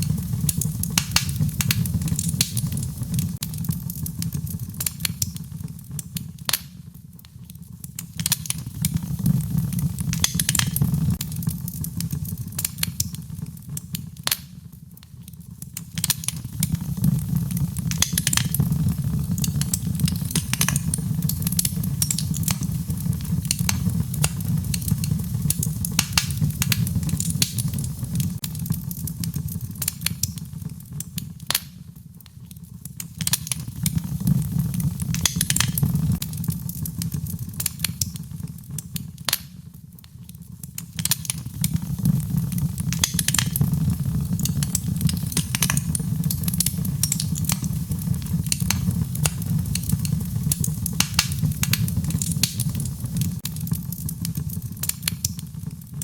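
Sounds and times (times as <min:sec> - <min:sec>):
low roar of flames: 0:00.0 - 0:14.4, 0:15.4 - 0:31.5, 0:32.2 - 0:39.3, 0:41.0 - 0:56.0
wood fire crackling and popping: 0:00.0 - 0:56.0.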